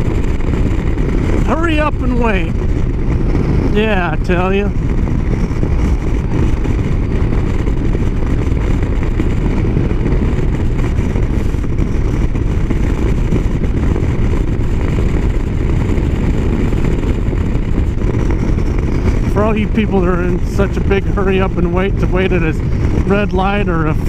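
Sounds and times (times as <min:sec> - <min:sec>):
wind and motorcycle engine rumble: 0:00.0 - 0:24.0.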